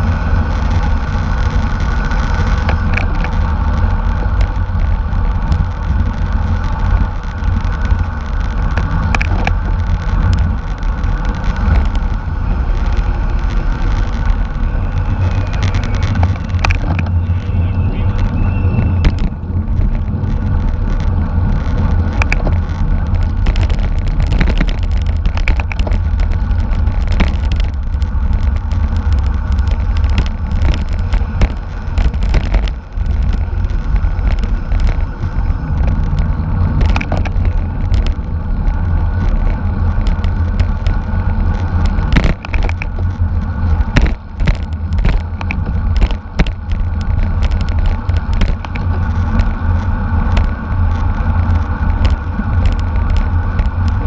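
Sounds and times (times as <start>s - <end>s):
bicycle clicks and rattles: 0.0s - 54.0s
wind buffeting microphone: 0.0s - 54.0s.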